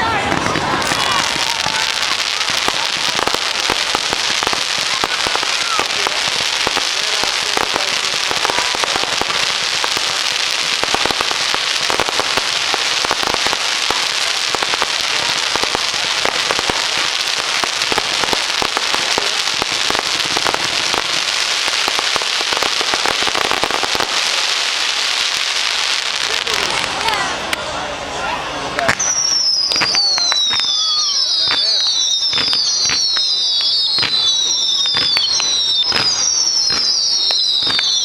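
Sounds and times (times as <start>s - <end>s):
fireworks crackling: 0.0s - 38.0s.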